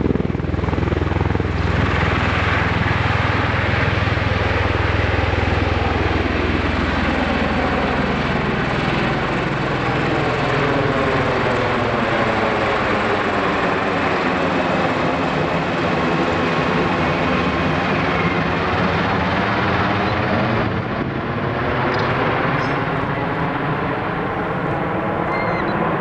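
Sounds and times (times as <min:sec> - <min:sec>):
aircraft rotor drone: 0:00.0 - 0:26.0.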